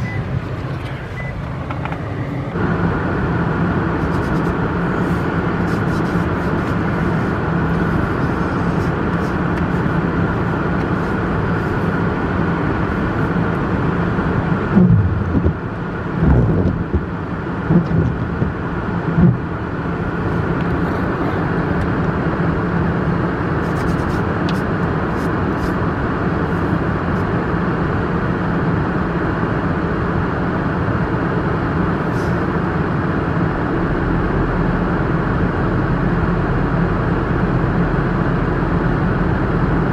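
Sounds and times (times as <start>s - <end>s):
car engine: 0.0s - 39.9s
tyre noise on snowy road: 0.0s - 39.9s.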